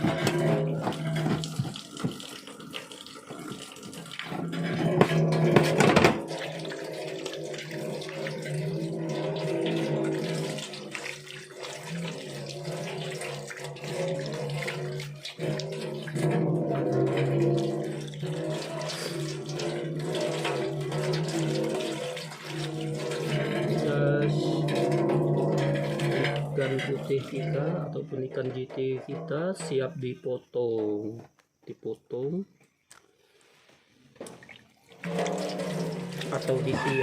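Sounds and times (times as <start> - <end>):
tap water running into sink: 0.0 - 29.9, 34.2 - 37.0.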